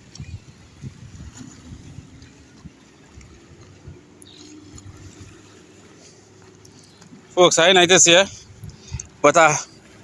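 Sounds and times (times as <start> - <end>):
gentle water lapping: 0.0 - 10.0
low uneven rumble: 0.0 - 10.0.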